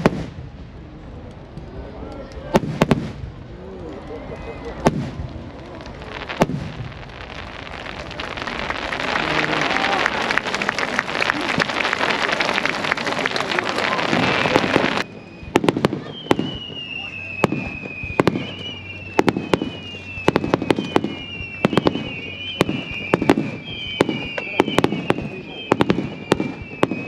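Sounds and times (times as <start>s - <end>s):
fireworks crackling and popping: 0.0s - 27.0s
descending firework whistle: 2.4s - 27.0s.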